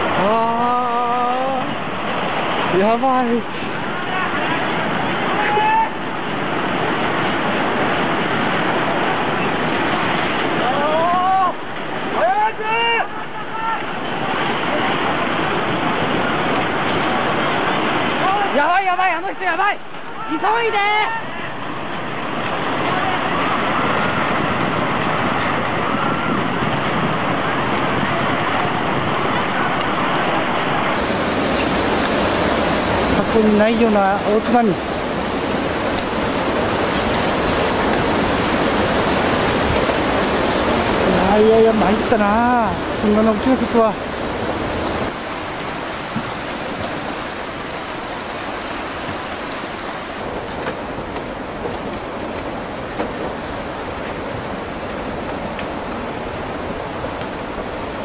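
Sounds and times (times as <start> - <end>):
floodwater rushing roar: 0.0 - 58.0.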